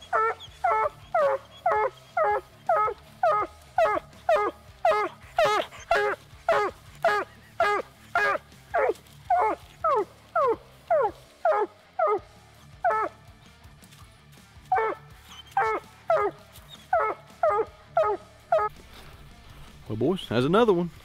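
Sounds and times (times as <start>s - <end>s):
hound barking: 0.0s - 13.3s, 14.6s - 18.8s.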